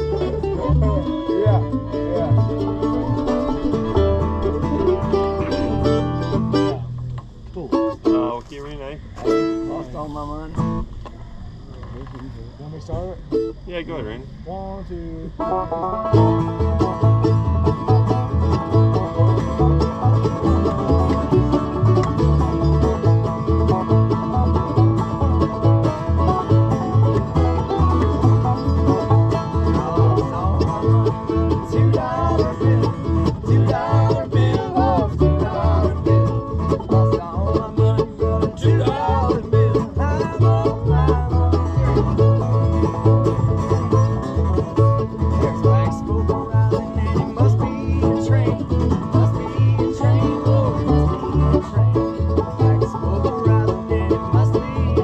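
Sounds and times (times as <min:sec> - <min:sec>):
banjo picking: 0:00.0 - 0:10.9, 0:13.2 - 0:13.6, 0:15.3 - 0:55.0
guitar: 0:00.0 - 0:55.0
low bass notes: 0:00.0 - 0:55.0.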